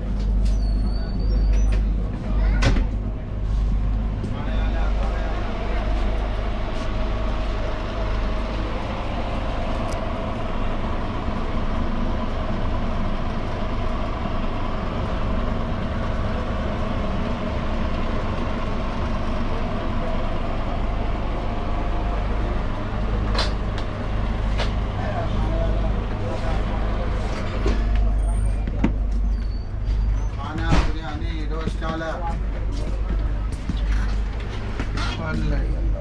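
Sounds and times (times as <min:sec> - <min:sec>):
continuous drone: 0:00.0 - 0:36.0
large engine idling: 0:00.0 - 0:36.0.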